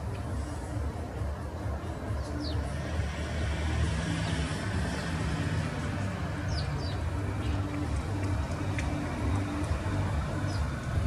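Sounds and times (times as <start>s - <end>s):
large vehicle engine rumbling: 0.0s - 11.0s.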